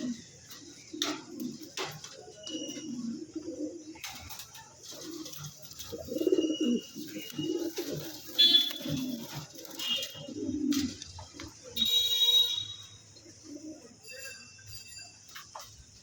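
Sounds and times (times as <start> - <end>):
pigeons cooing: 0.0 - 14.2.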